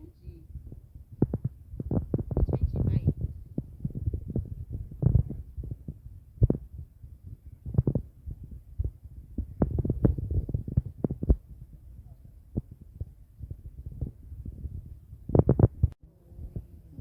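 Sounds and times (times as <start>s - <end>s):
phone microphone handling noise: 0.6s - 11.8s, 12.5s - 16.7s.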